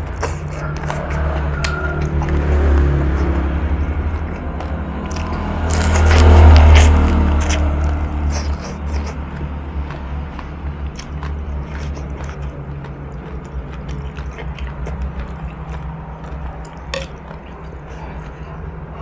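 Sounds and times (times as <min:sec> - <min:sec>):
person chewing noodles: 0:00.0 - 0:19.0
steady low hum: 0:00.0 - 0:19.0.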